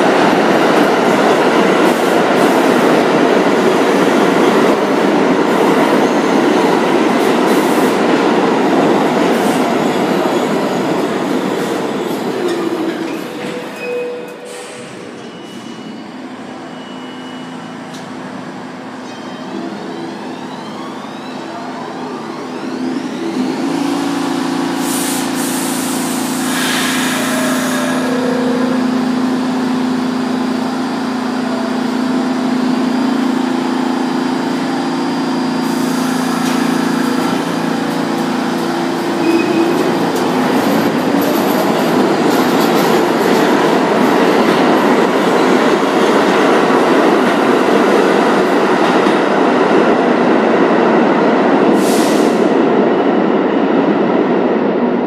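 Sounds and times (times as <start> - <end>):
train wheels rumbling on rails: 0.0 - 15.9, 17.0 - 55.0
train electric hum: 0.0 - 55.0.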